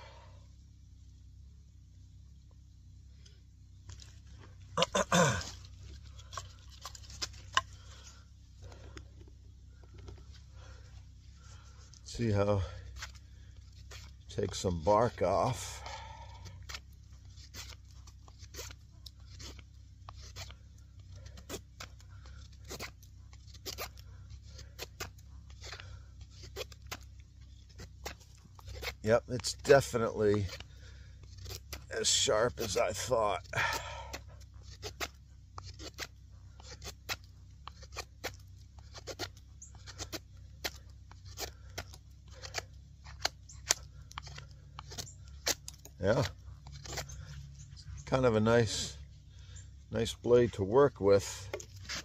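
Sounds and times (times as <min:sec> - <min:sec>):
knife shaving bark off stick: 0:03.1 - 0:52.0.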